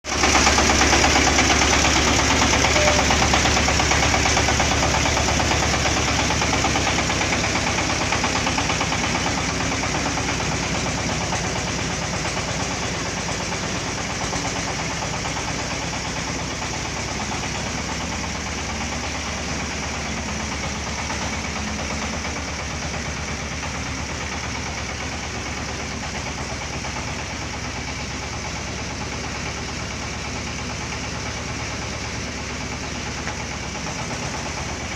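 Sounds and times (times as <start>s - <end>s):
harvester engine and machinery: 0.0s - 34.9s.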